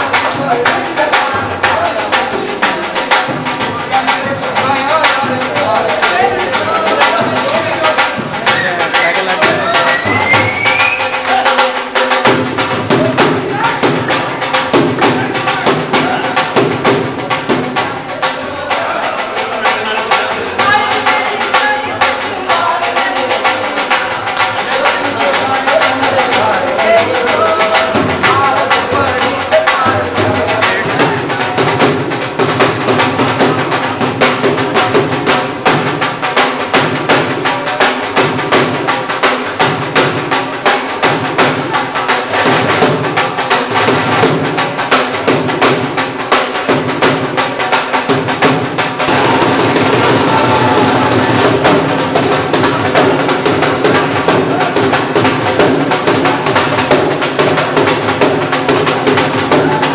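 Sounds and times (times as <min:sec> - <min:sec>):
fast drumming: 0:00.0 - 0:59.9
instrumental folk music: 0:00.0 - 0:59.9.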